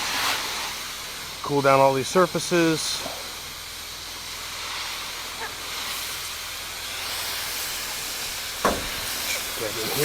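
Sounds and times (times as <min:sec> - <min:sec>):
pressure washer spraying water: 0:00.0 - 0:10.0.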